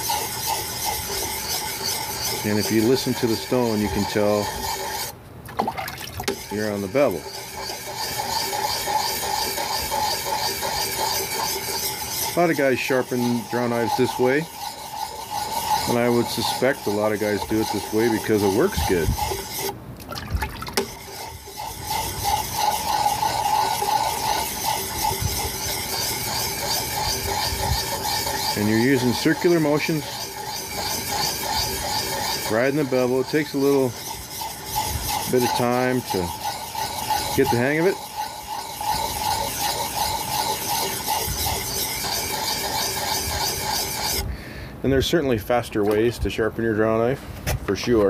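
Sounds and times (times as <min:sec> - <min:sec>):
stone scraping on steel: 0:00.0 - 0:05.2, 0:06.1 - 0:19.8, 0:20.5 - 0:44.3.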